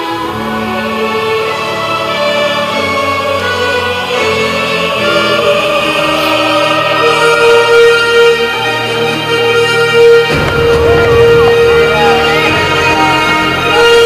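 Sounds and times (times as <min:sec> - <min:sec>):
choir singing held chords: 0:00.0 - 0:14.0
orchestral music: 0:00.0 - 0:14.0.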